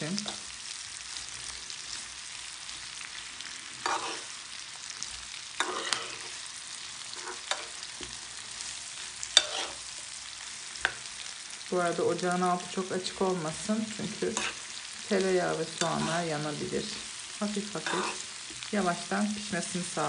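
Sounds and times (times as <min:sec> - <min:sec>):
onions sizzling in butter: 0:00.0 - 0:20.0.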